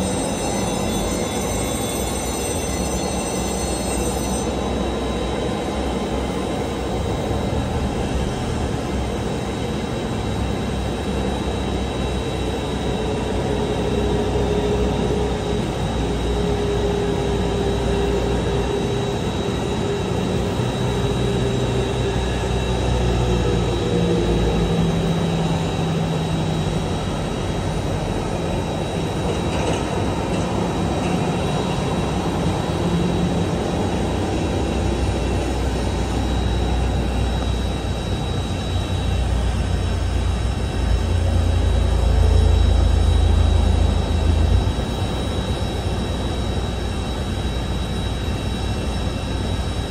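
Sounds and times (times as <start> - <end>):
jet airliner engine whine: 0.0 - 49.9.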